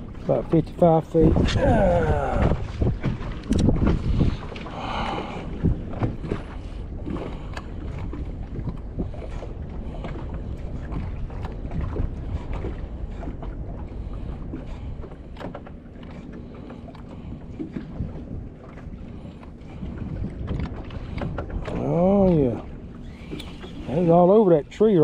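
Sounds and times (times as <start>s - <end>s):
knocks and splashes: 0.0s - 24.0s
waves slapping against boat hull: 0.0s - 25.0s
wind buffeting microphone: 0.0s - 25.0s.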